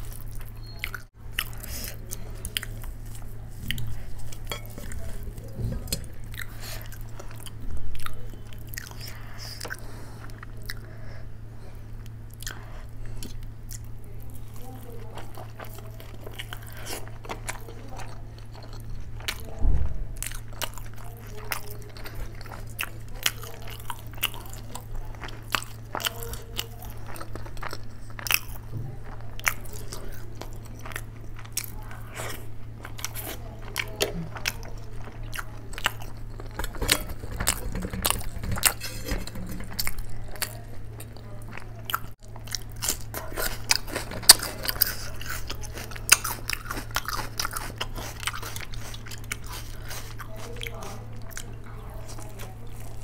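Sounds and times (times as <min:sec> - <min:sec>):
chewing and mouth smacks: 0:00.0 - 0:11.0, 0:12.0 - 0:53.0
steady low hum: 0:00.0 - 0:53.0.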